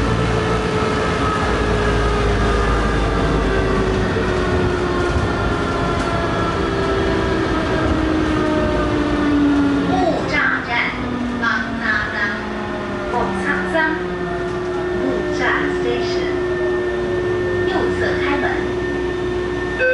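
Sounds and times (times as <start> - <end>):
train running noise: 0.0 - 19.9
train traction whine: 0.0 - 19.9.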